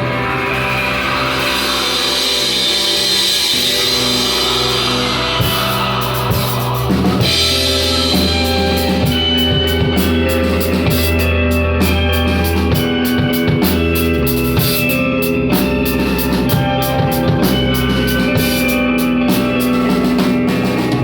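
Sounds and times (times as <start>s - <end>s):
rock music instrumental: 0.0s - 21.0s.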